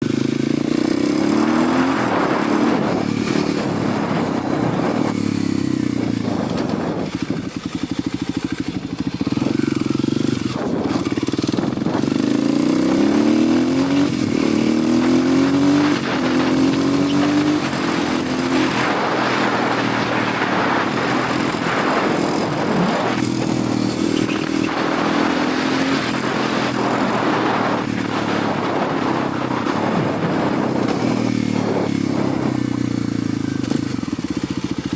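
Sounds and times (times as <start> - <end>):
motorcycle engine shifting gears: 0.0 - 34.9
wind rushing: 0.7 - 33.9.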